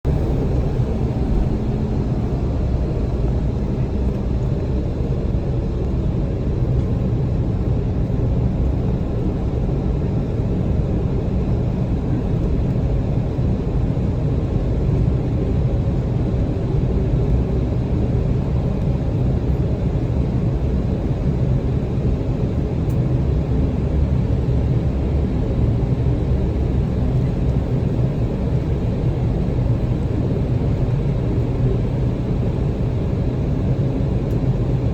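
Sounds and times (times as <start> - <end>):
jet airliner low rumble: 0.0 - 34.9.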